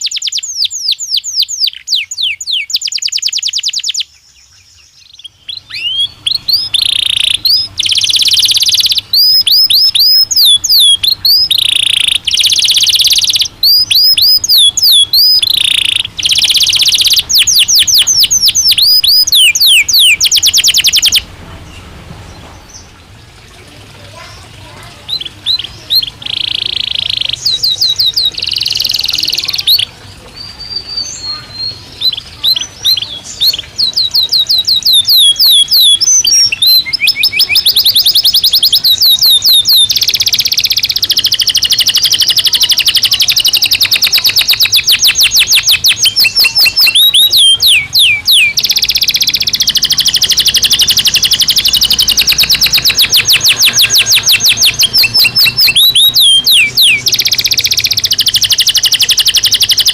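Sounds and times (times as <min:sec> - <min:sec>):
canary singing trills: 0:00.0 - 0:23.3, 0:24.0 - 0:59.9.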